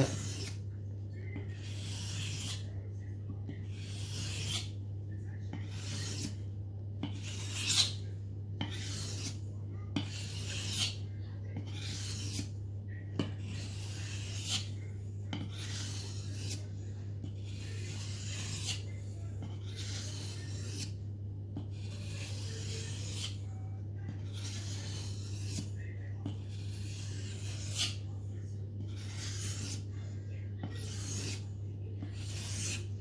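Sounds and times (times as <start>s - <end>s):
blade scraping on whetstone: 0.0s - 0.6s, 1.4s - 2.7s, 3.6s - 4.8s, 5.5s - 6.4s, 7.0s - 9.4s, 10.0s - 12.6s, 13.2s - 21.0s, 21.6s - 28.2s, 28.8s - 33.0s
steady low hum: 0.0s - 33.0s.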